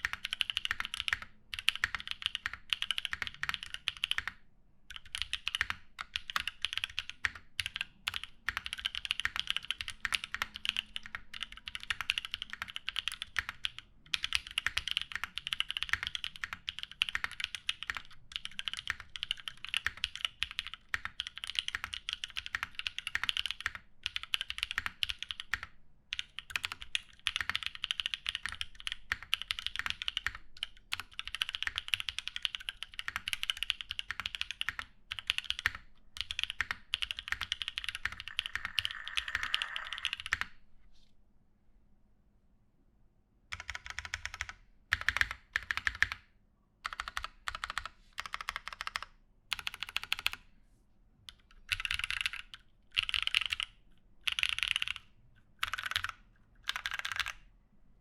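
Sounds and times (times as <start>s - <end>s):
fast mechanical keyboard typing: 0.0s - 40.6s, 43.5s - 46.2s, 46.8s - 50.4s, 51.3s - 57.5s.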